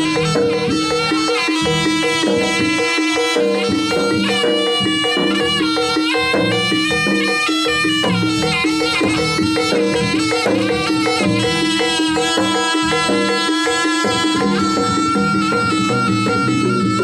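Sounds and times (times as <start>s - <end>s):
drums: 0.0s - 17.0s
reedy trumpet melody: 0.0s - 17.0s.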